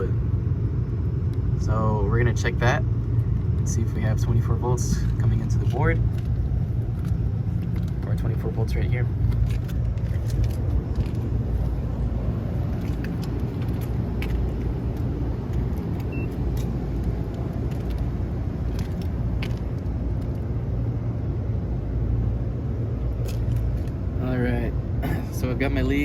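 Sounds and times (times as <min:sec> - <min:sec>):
hvac unit humming: 0:00.0 - 0:26.0.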